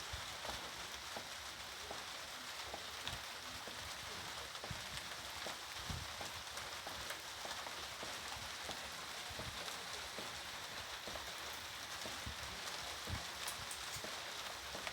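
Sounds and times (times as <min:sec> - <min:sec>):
rain hissing: 0:00.0 - 0:14.9.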